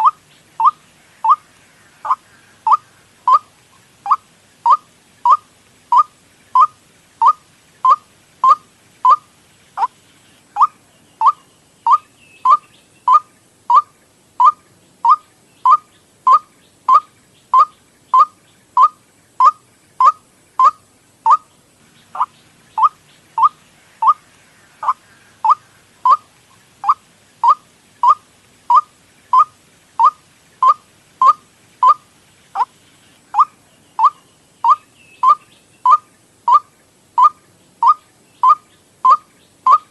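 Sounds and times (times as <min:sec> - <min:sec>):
waterhen call: 0:00.0 - 0:39.9.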